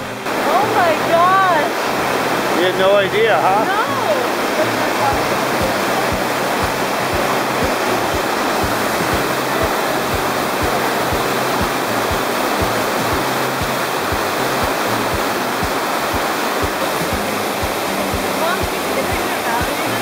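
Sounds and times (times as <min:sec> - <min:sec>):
waterfall roaring: 0:00.0 - 0:20.0
music with low beat: 0:03.5 - 0:20.0.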